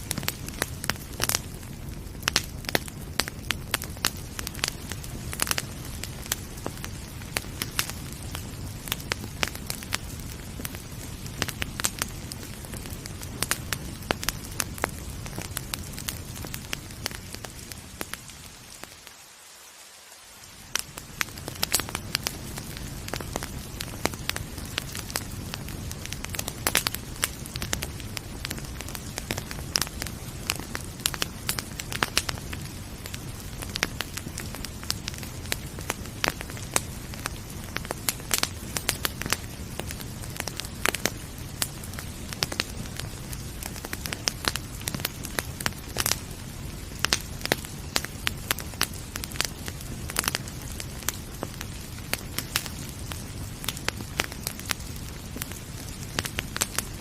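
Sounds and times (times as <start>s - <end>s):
wood fire crackling and popping: 0.0s - 19.2s, 20.4s - 57.0s
gentle rain hiss: 0.0s - 57.0s.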